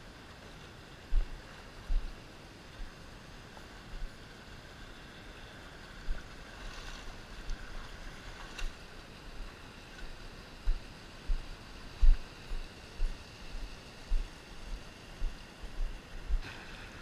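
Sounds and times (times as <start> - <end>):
stream flowing over rocks: 0.1 - 15.7.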